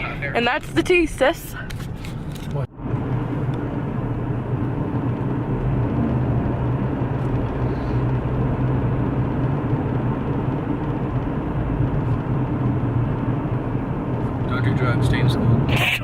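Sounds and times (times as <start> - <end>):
engine and road drone: 0.0 - 16.0.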